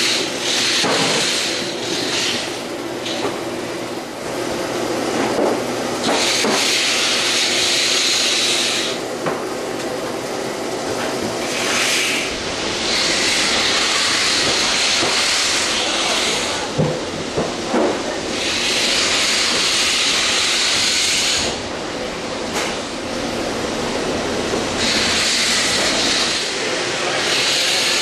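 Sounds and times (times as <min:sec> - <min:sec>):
machine humming and hissing: 0:00.0 - 0:28.0.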